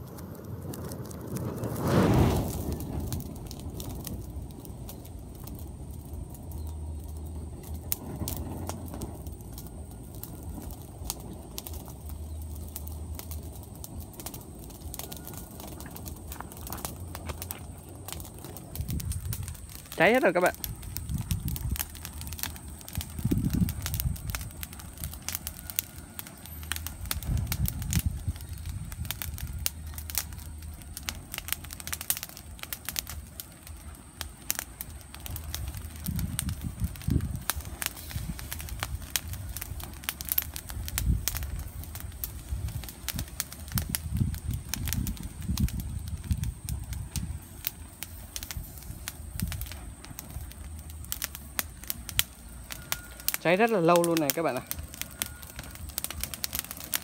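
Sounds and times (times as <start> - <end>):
grass burning with crackling pops: 0.0 - 57.0
low uneven rumble: 0.0 - 57.0.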